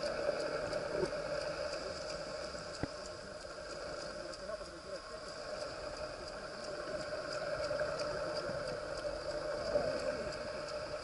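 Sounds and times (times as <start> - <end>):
boat engine underwater hum: 0.0 - 11.0
light regular ticking: 0.0 - 11.0.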